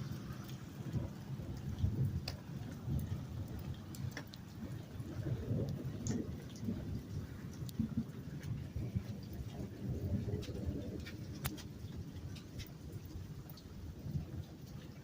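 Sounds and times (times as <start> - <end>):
rain falling: 0.0 - 15.0
rumble of thunder: 0.0 - 15.0
drops ticking on a surface: 0.3 - 6.7, 7.5 - 13.7.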